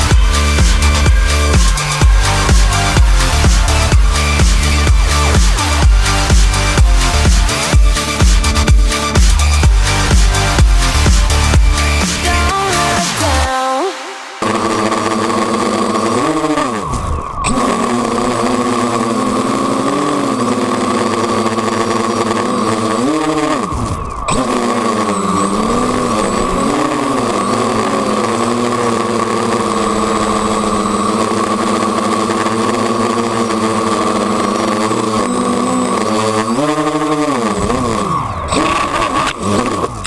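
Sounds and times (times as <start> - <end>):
drone propellers buzzing: 0.0 - 40.0.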